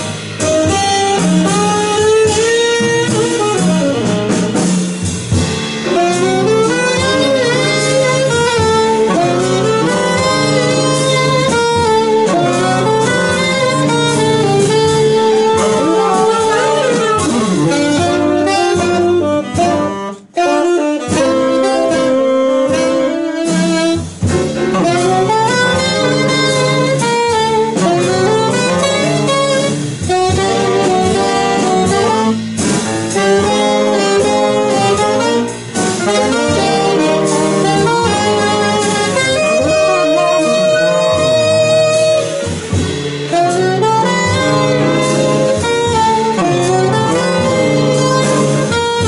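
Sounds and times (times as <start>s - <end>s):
double bass: 0.0s - 49.0s
drums: 0.0s - 49.0s
piano: 0.0s - 49.0s
saxophones playing in harmony: 0.0s - 49.0s.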